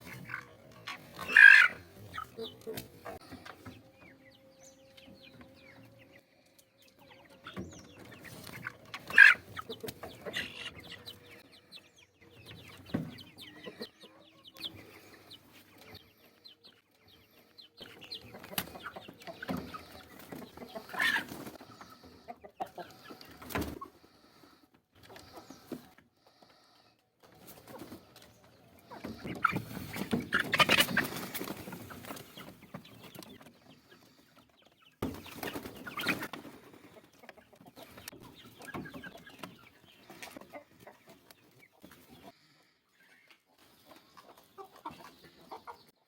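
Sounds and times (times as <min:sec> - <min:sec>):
birds calling: 0:00.0 - 0:46.0.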